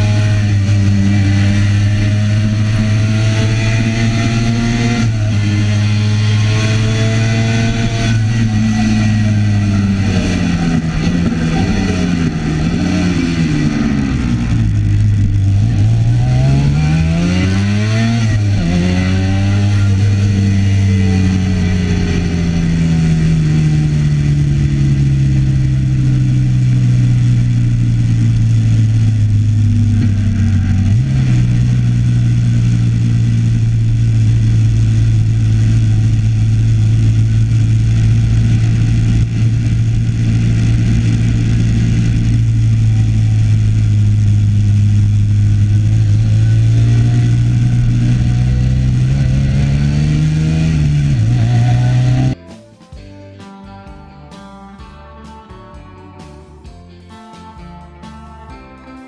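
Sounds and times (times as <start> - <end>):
motorcycle engine at speed: 0.0 - 52.4.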